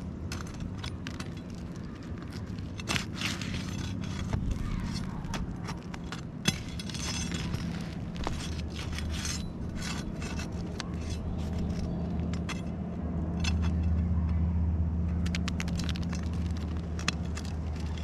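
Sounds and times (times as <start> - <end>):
shingles being scraped: 0.0 - 12.8, 15.3 - 18.0
steady low rumble: 0.0 - 18.0.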